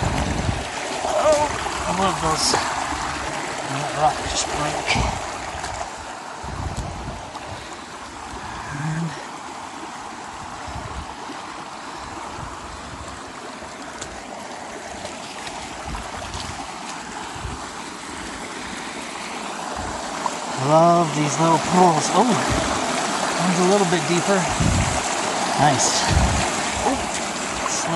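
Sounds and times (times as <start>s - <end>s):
creek water running: 0.0s - 27.9s.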